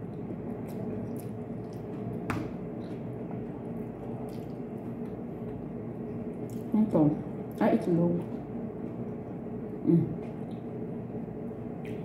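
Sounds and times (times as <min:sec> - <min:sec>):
soft wet eating noises: 0:00.0 - 0:12.0
steady low hum: 0:00.0 - 0:12.0.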